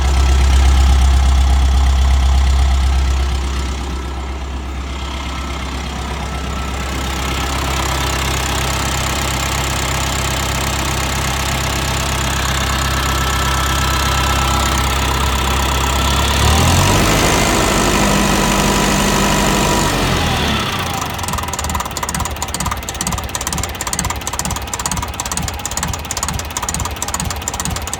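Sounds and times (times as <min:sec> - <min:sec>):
tractor diesel engine running: 0:00.0 - 0:27.9.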